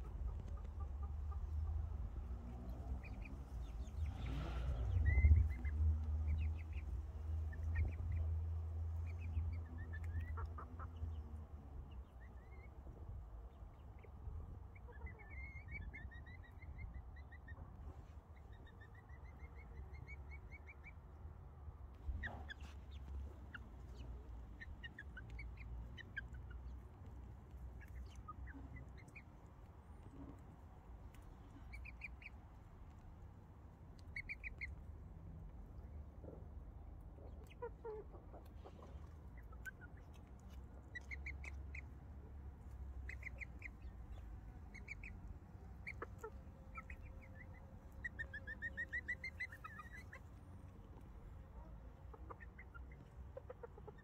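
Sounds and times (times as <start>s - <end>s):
chickens clucking and chirping: 0.0s - 54.0s.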